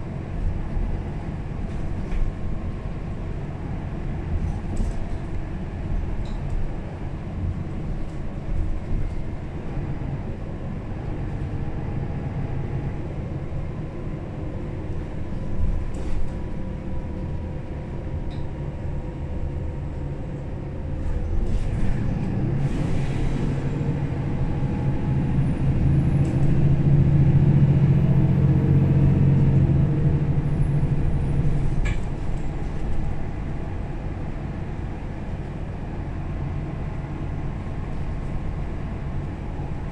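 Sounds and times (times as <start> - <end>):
bus diesel engine: 0.0 - 39.9.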